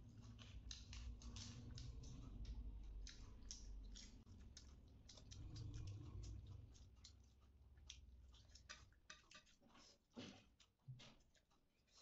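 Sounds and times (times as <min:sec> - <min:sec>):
chewing clicks and smacks: 0:00.0 - 0:12.0.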